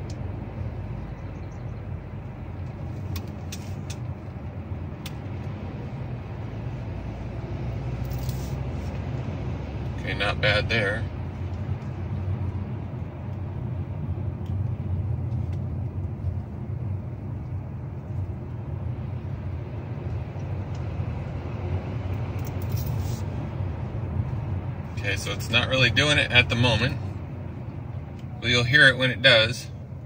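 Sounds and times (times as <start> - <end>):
road and tyre rumble in car: 0.0 - 30.0.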